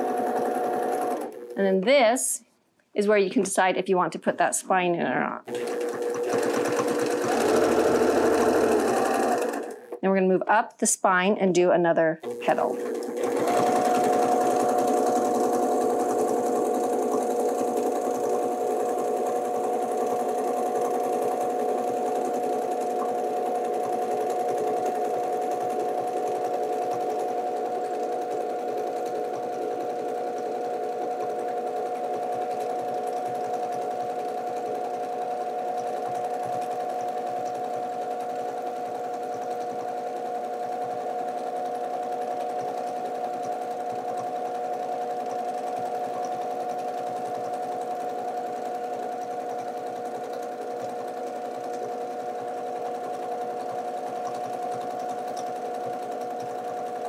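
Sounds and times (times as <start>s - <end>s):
sewing machine running: 0.0s - 1.8s, 5.5s - 10.0s, 12.2s - 57.0s.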